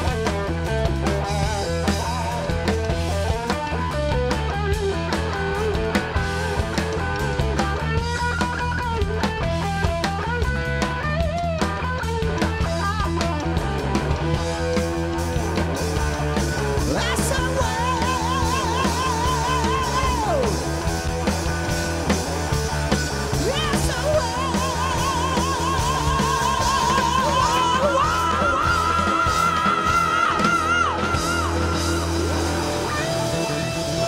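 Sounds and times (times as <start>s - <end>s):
bass guitar: 0.0s - 34.0s
drum kit: 0.0s - 34.0s
electric guitar solo: 0.0s - 34.0s.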